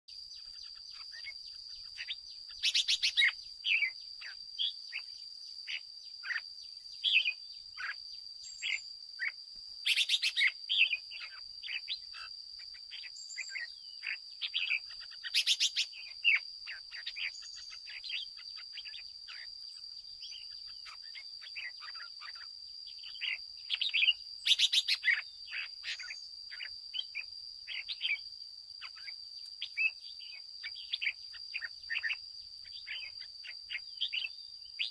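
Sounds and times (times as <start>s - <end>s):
birds chirping and whistling: 0.3s - 28.2s, 28.8s - 34.9s.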